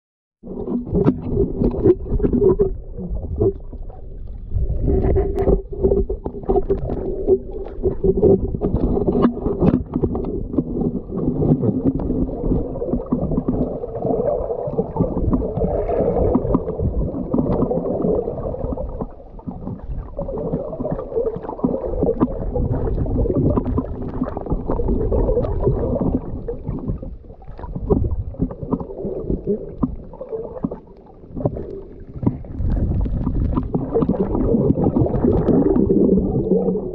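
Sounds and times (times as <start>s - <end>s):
underwater water movement and gurgling: 0.4s - 36.9s.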